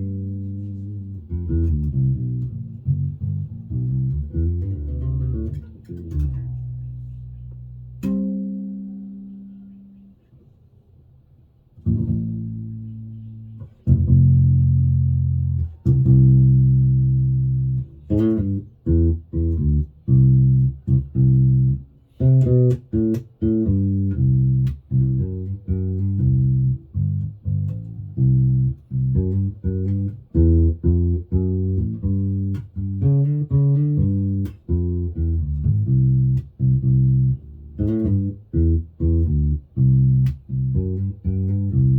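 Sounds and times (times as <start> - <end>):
electric bass notes: 0.0 - 9.9, 11.8 - 41.9.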